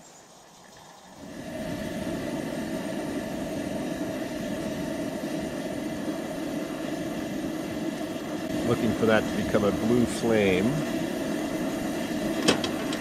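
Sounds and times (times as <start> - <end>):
camp stove burner hissing: 0.0 - 13.0.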